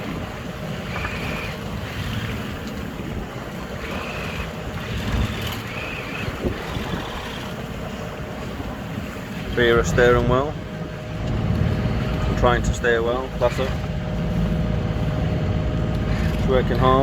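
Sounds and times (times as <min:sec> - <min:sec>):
boat engine drone: 0:00.0 - 0:17.0
waves washing against hull: 0:00.0 - 0:17.0
wind buffeting microphone: 0:00.0 - 0:17.0.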